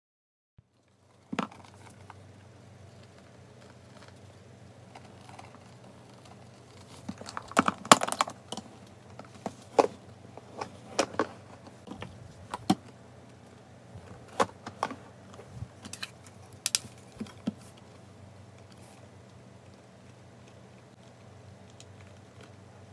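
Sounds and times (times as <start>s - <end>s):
faint steady hum: 0.6s - 22.9s.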